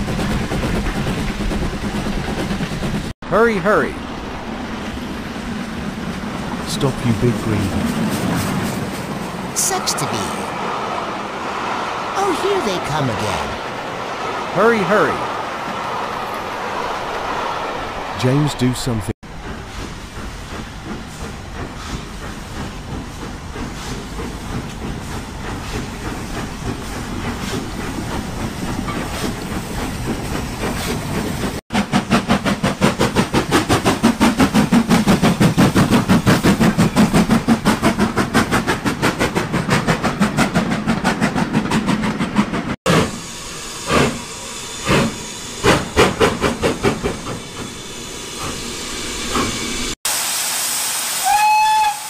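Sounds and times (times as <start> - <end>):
fast regular beat of train: 0.0 - 3.2, 6.1 - 15.8, 19.2 - 50.0.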